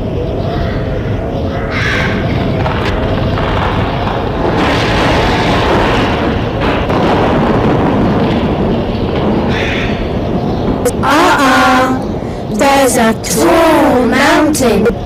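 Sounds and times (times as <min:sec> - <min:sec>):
loud steady rumbling: 0:00.0 - 0:15.0.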